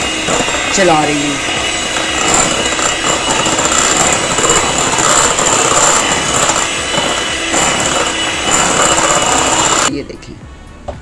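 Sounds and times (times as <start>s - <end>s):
electric hand mixer whining: 0.0s - 9.9s.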